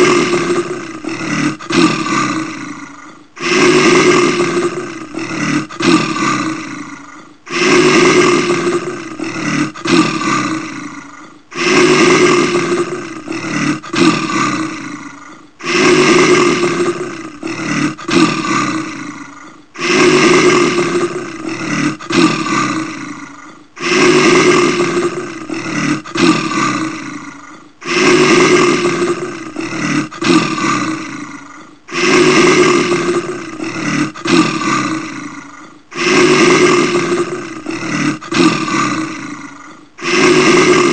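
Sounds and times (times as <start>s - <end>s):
bear roaring: 0.0s - 40.9s.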